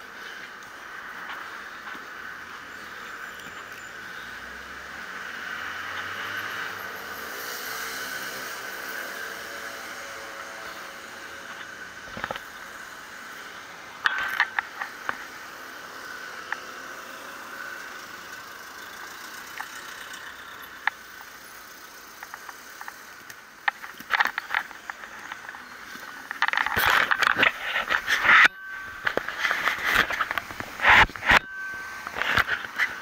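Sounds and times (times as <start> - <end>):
street traffic: 0.0 - 33.0.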